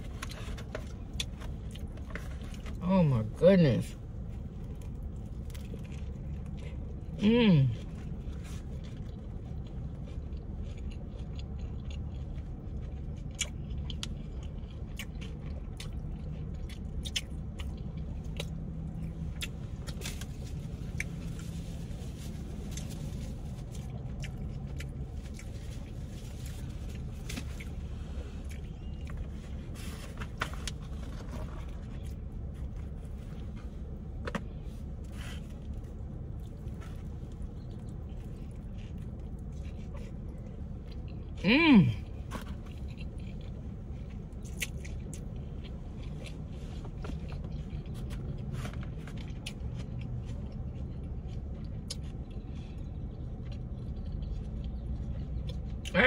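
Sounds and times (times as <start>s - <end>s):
person chewing food: 0.0s - 2.8s, 4.1s - 56.0s.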